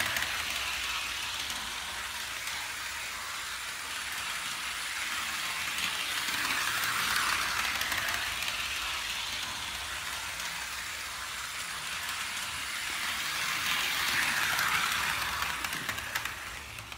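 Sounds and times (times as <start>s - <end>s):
toy train motor whirring: 0.0s - 16.9s.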